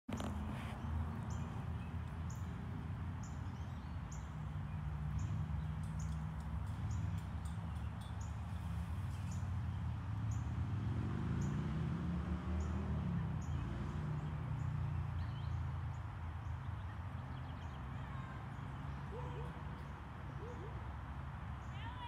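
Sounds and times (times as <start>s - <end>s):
low engine-like hum: 0.1s - 22.0s.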